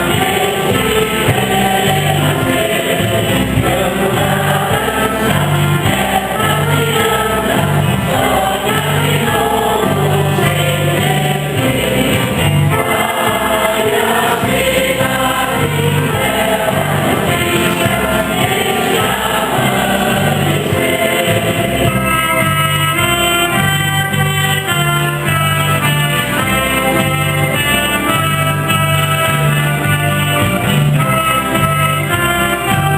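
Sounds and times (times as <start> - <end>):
church choir singing: 0.0 - 32.9.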